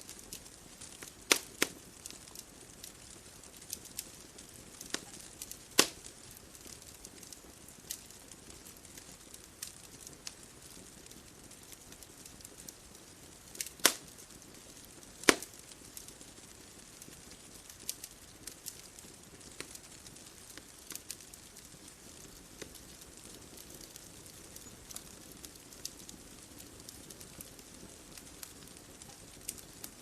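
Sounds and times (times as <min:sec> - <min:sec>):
bonfire crackling: 0:00.0 - 0:30.0
loud fire pops: 0:00.1 - 0:30.0.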